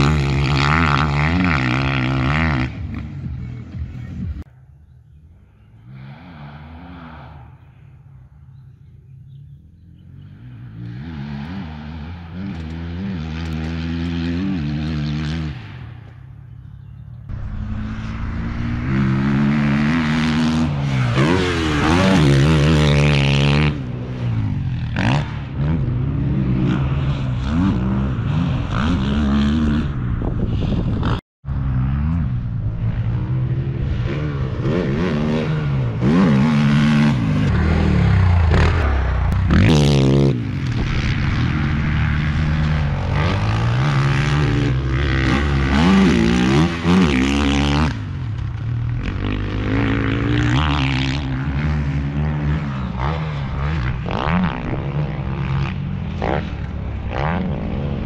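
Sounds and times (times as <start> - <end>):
dirt bike engine revving: 0.0 - 4.4, 10.0 - 15.9, 17.3 - 30.2, 30.8 - 58.0.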